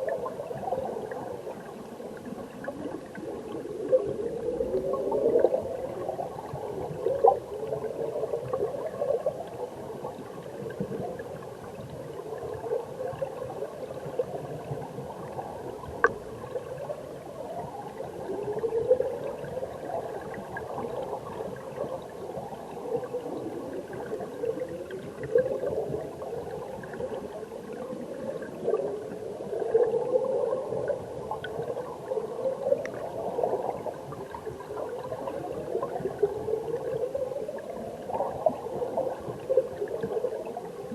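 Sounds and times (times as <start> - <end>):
underwater stream gurgling: 0.0 - 40.9.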